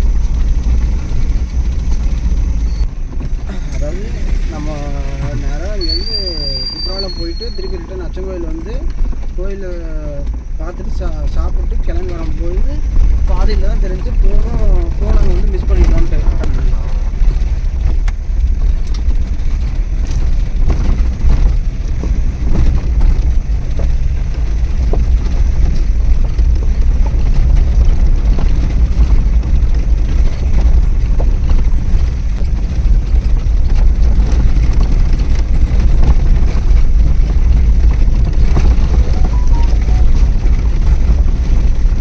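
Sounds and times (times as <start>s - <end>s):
car engine and tyres rumbling: 0.0s - 42.0s.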